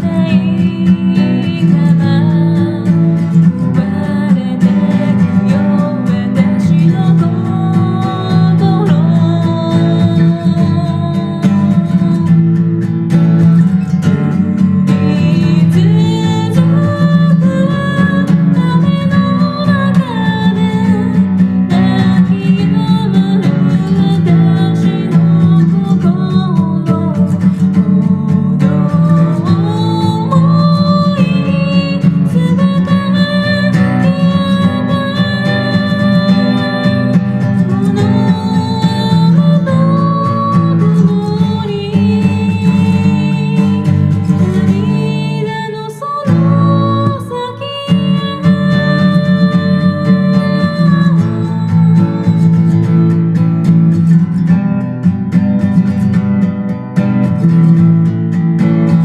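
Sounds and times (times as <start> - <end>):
person singing: 0.0 - 12.7, 14.0 - 53.5
acoustic guitar chords: 0.0 - 59.0.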